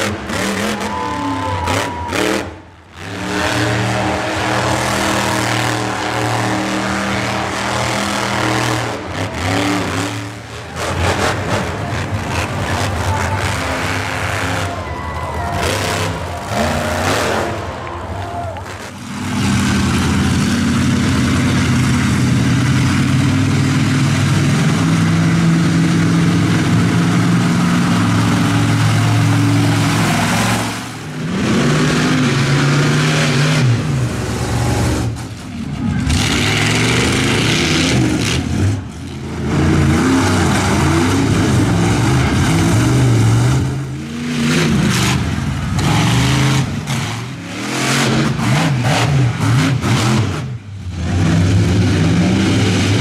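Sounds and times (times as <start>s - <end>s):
monster truck engines revving: 0.0s - 53.0s.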